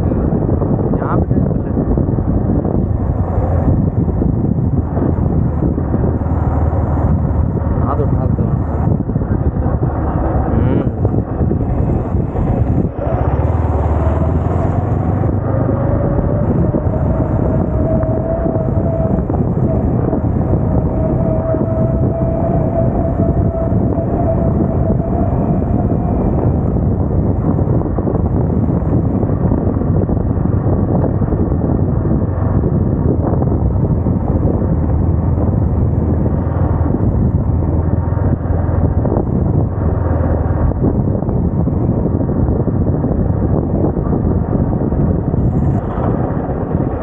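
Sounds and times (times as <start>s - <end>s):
motorcycle engine running: 0.0s - 47.0s
steady rushing noise: 0.0s - 47.0s.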